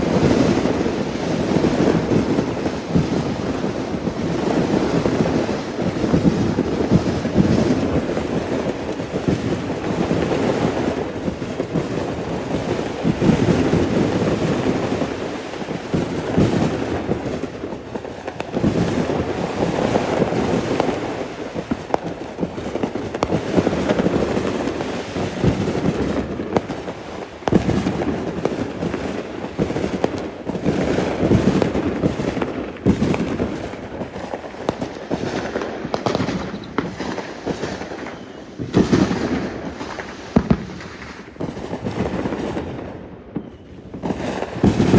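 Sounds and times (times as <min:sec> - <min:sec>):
fireworks bangs and crackles: 0:00.0 - 0:44.9
rolling rumble of fireworks: 0:00.0 - 0:44.9.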